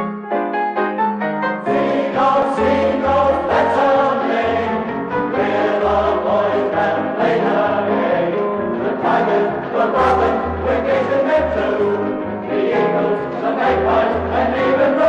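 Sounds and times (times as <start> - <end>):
piano notes: 0.0 - 15.0
group of voices singing: 1.7 - 15.0.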